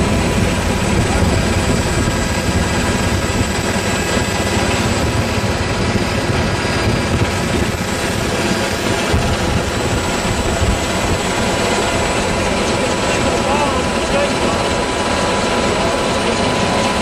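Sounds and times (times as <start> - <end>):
helicopter rotor and turbine noise: 0.0 - 17.0.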